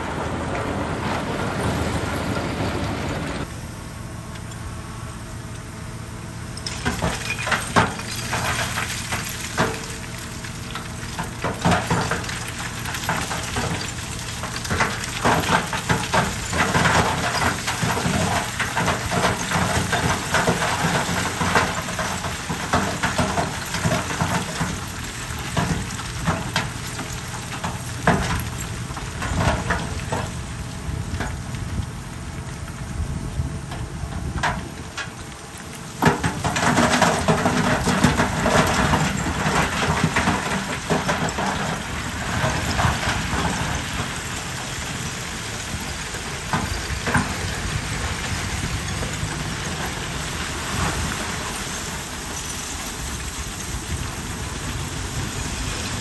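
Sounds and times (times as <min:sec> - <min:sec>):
diesel engine running: 0:00.0 - 0:56.0
gravel crunching and clattering: 0:00.0 - 0:56.0.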